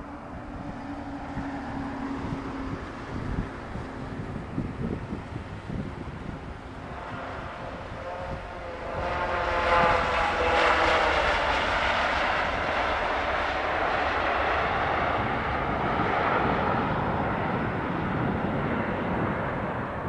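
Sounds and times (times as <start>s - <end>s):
jet airliner passing: 0.0s - 20.0s.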